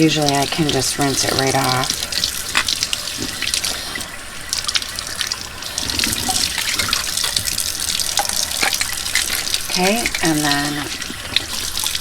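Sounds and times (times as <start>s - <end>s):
tap water splashing into sink: 0.0s - 12.0s.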